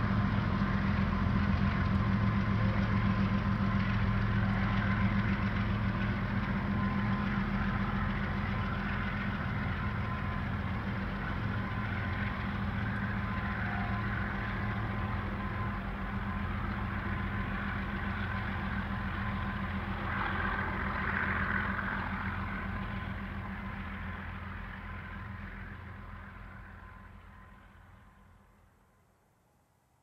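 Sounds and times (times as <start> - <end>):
diesel locomotive engine drone: 0.0 - 29.5
rail and wheel noise: 0.0 - 29.6.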